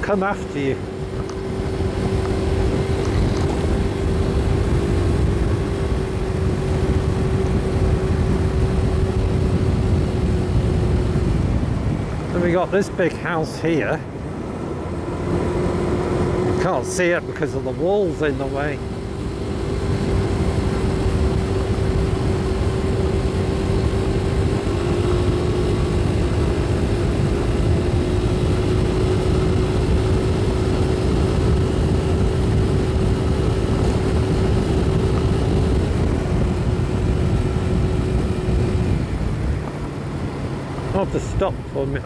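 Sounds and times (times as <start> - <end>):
motorcycle engine: 0.0 - 42.0
wind rush: 0.0 - 42.0.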